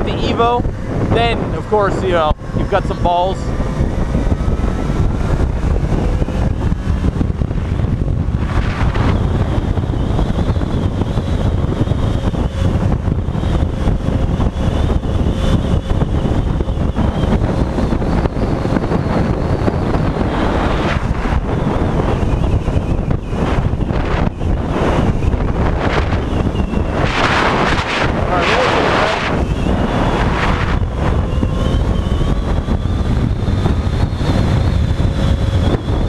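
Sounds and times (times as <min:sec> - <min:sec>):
motorcycle engine running: 0:00.0 - 0:36.0
wind rushing on helmet: 0:00.0 - 0:36.0.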